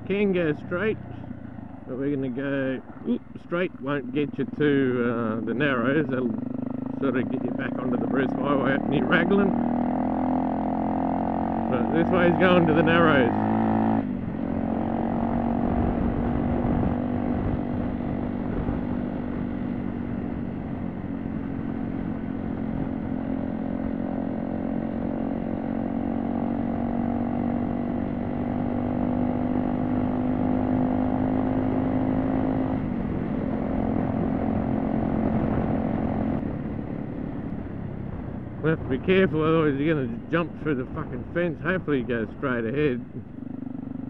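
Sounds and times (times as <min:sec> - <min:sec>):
motorcycle engine cruising: 0:00.0 - 0:44.0.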